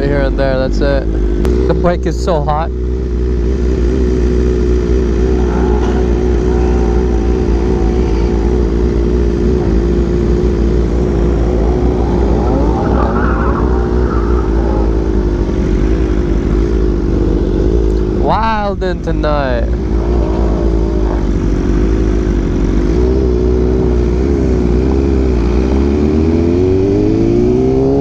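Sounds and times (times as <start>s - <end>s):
engine revving: 0.0s - 28.0s
motorcycle engine running: 0.0s - 28.0s.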